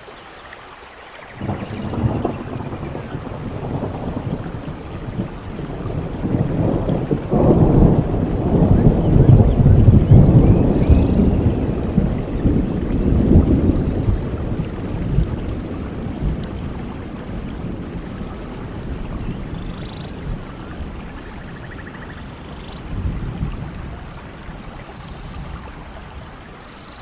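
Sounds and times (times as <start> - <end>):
steady rain hiss: 0.0 - 27.0
thunder rumbling: 1.4 - 26.6.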